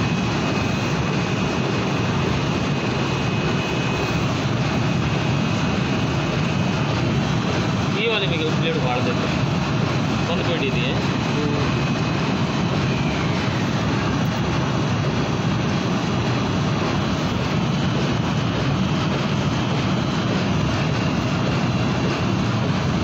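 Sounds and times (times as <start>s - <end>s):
loud rushing noise with hum: 0.0s - 23.0s.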